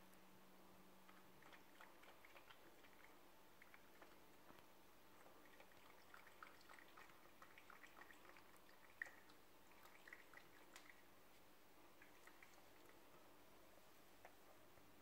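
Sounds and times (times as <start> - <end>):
cat lapping water: 1.0 - 13.4.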